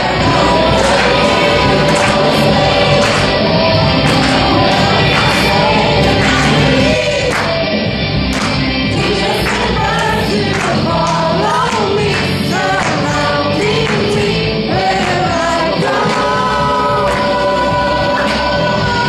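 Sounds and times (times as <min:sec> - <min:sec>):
choir singing: 0:00.0 - 0:19.0
instrumental backing with steady beat: 0:00.0 - 0:19.0.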